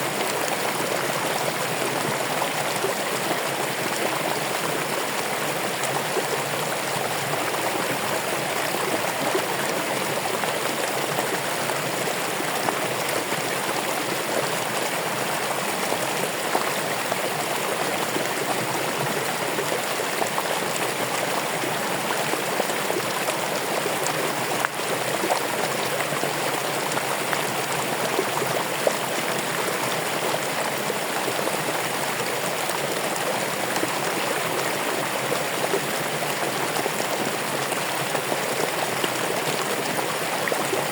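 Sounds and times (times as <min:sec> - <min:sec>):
running water flowing: 0:00.0 - 0:40.9.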